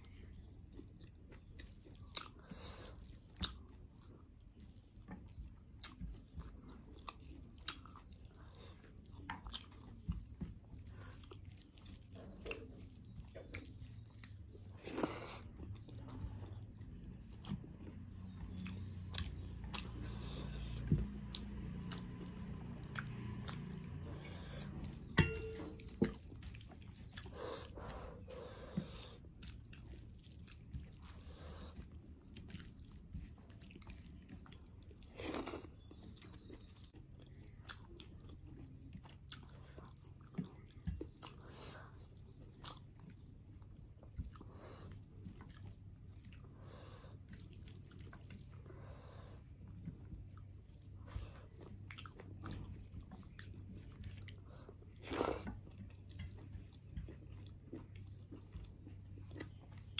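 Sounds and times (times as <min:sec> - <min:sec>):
low background hum: 0:00.0 - 0:59.9
person chewing and lip smacking: 0:00.0 - 0:59.9.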